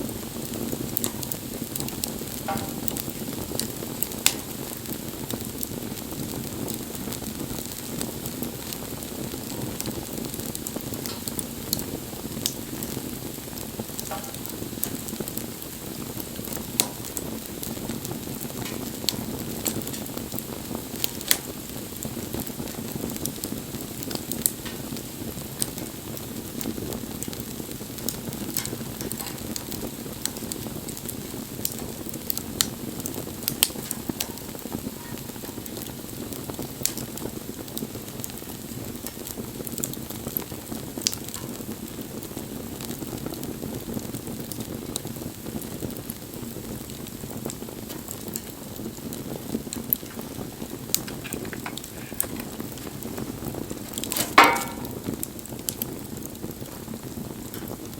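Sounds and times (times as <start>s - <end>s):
bonfire flames rushing: 0.0s - 57.9s
burning wood crackling and popping: 0.0s - 57.9s.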